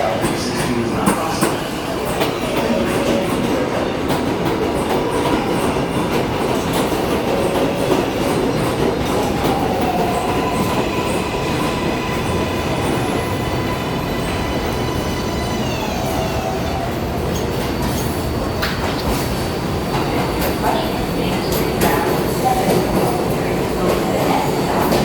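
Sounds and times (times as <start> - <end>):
subway train rumble: 0.0 - 25.0.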